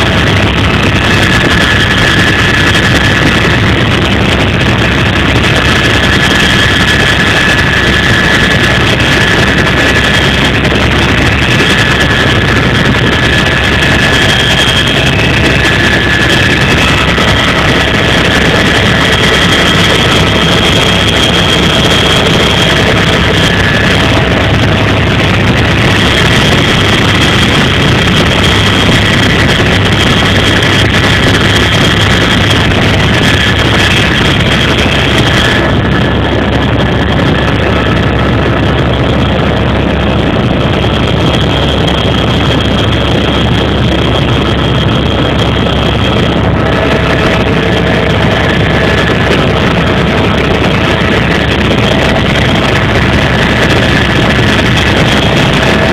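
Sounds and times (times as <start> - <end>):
helicopter rotor and engine din: 0.0 - 55.9
turbine whine: 0.0 - 55.9.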